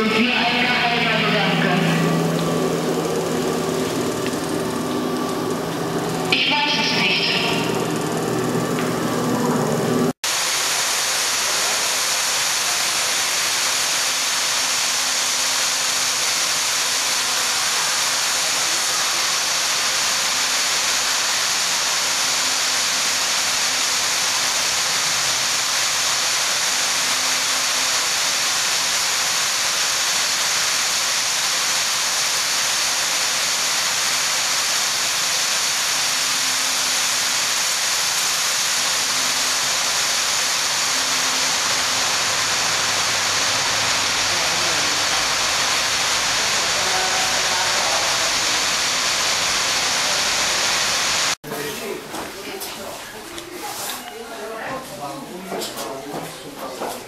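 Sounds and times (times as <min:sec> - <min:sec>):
loud steady rushing hiss: 0:00.0 - 0:52.7.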